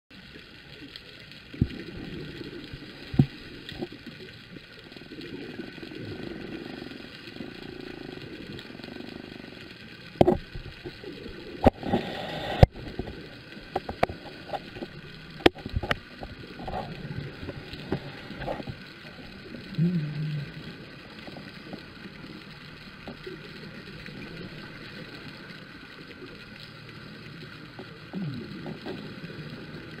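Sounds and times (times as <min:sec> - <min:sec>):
underwater bubbling of exhaled breath: 0:00.1 - 0:30.0.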